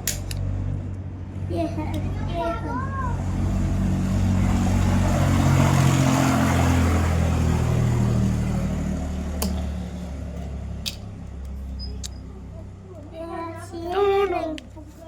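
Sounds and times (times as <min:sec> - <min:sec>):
vehicle engine passing by: 0:00.4 - 0:15.0.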